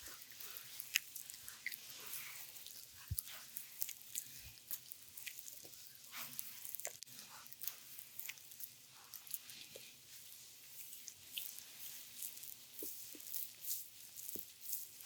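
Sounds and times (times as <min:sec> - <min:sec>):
hands squishing on oiled skin: 0:00.0 - 0:15.0.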